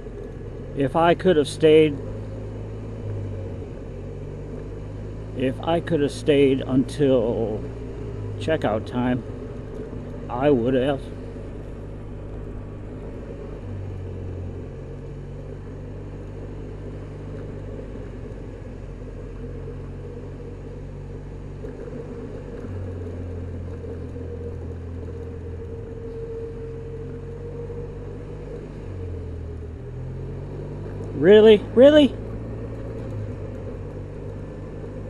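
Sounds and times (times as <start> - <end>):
road and wind noise: 0.0 - 35.0
scooter engine humming: 0.0 - 35.0.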